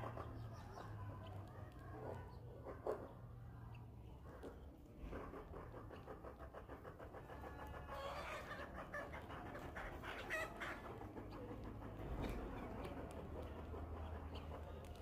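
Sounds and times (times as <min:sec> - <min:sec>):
faint clucking of fowl: 0:00.0 - 0:15.0.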